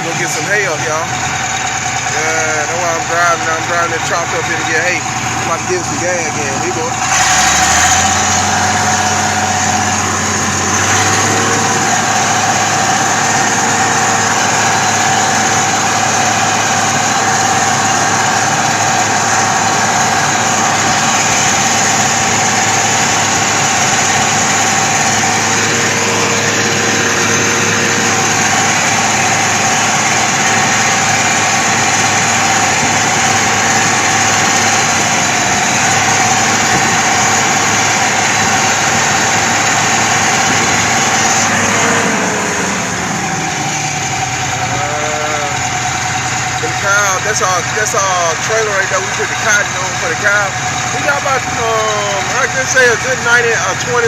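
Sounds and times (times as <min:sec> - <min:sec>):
truck engine humming: 0:00.0 - 0:54.0.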